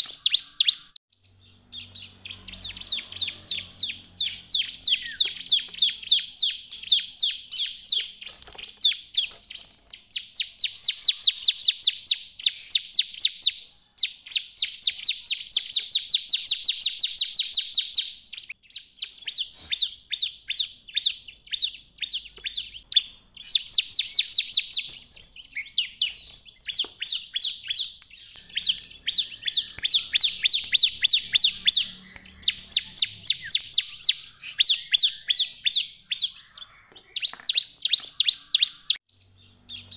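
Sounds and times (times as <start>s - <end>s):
bird singing rapid high notes: 0.0s - 39.9s.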